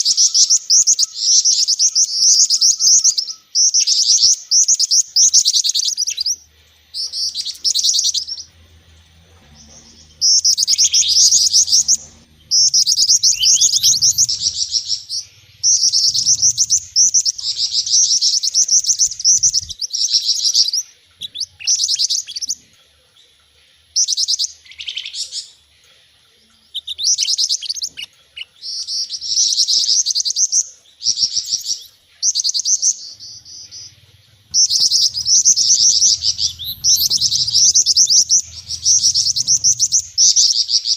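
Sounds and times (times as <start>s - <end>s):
songbirds chirping trills: 0.0s - 40.9s.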